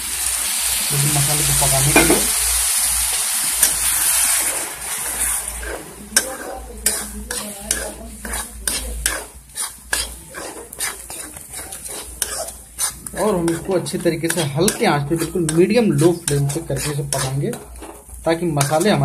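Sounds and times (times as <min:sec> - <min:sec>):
spices sizzling in hot oil: 0:00.0 - 0:19.0
spatula scraping pan: 0:01.5 - 0:02.4, 0:03.5 - 0:19.0.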